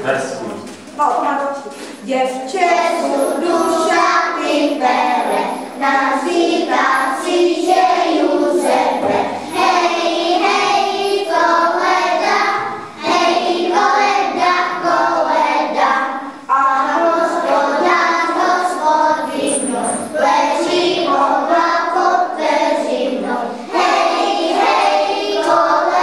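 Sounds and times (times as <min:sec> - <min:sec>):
young children singing: 0:02.4 - 0:26.0.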